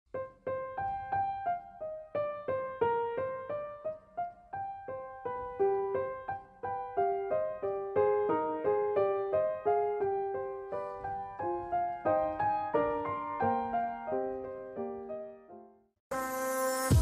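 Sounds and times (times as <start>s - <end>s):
light piano melody: 0.1s - 15.9s.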